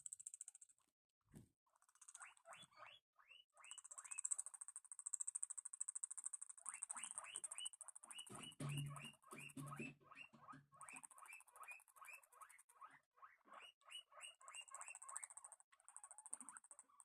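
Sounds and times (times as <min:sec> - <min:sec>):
guinea pigs squeaking: 0:01.7 - 0:17.0.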